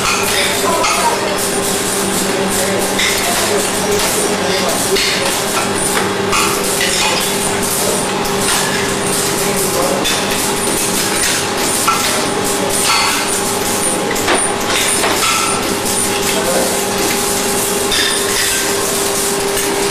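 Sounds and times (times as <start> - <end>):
workshop hum: 0.0 - 19.9.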